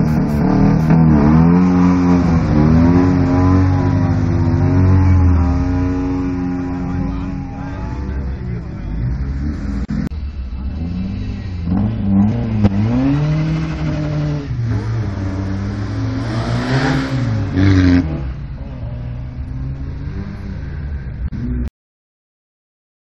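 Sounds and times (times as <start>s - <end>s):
engine running at lower revs: 0.0s - 21.7s
rally car engine accelerating: 0.0s - 21.7s.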